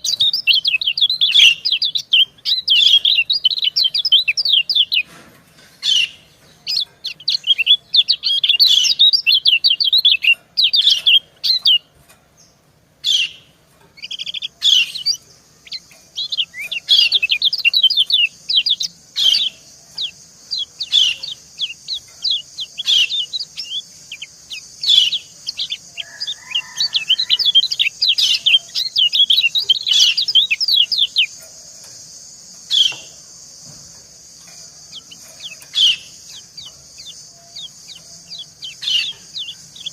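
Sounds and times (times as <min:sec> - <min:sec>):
birds chirping: 0:00.0 - 0:39.9
steady high hiss: 0:00.0 - 0:39.9.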